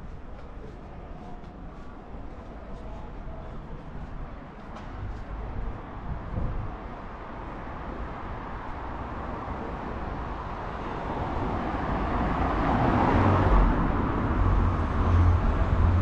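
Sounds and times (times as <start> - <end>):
vehicle approaching with low rumble: 0.0 - 16.0.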